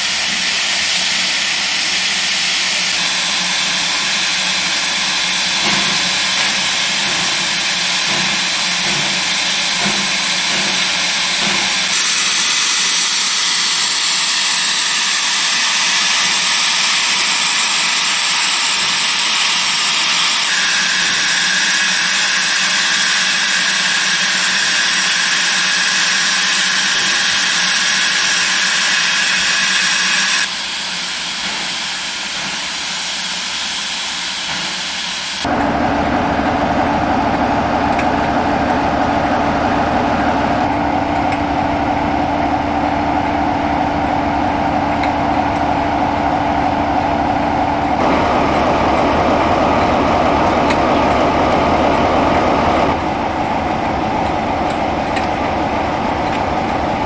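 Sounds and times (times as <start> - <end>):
steam hissing: 0.0 - 40.7, 45.9 - 57.0.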